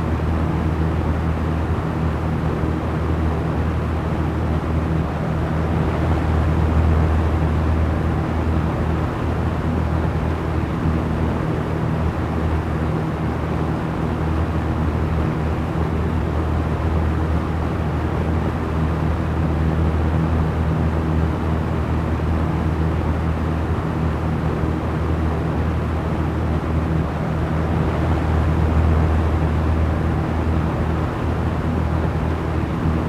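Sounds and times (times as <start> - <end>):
electric fan running: 0.0 - 33.0.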